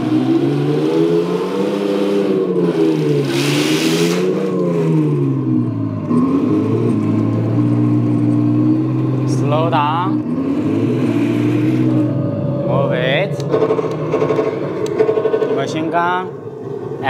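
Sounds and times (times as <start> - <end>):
simulated tank engine: 0.0 - 17.0.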